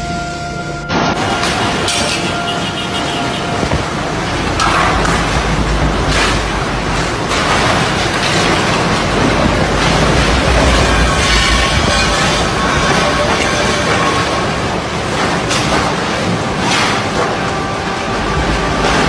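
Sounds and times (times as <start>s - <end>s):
heavy rain: 0.0s - 19.0s
storm wind buffeting microphone: 3.0s - 19.0s.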